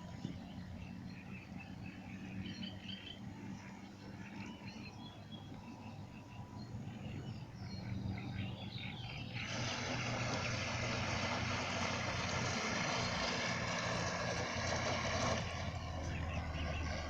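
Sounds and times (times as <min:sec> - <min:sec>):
small motors humming: 0:00.0 - 0:17.0.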